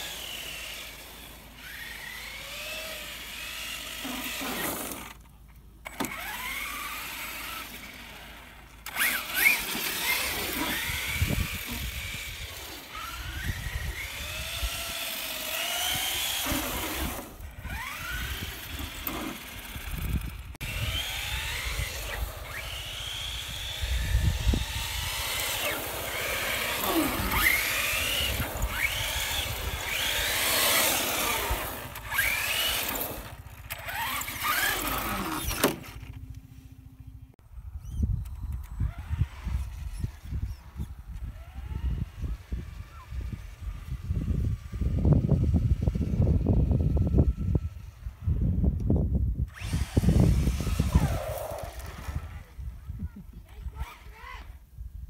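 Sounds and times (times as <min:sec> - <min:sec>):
toy car electric motor whining: 0:00.0 - 0:36.4, 0:37.7 - 0:54.8.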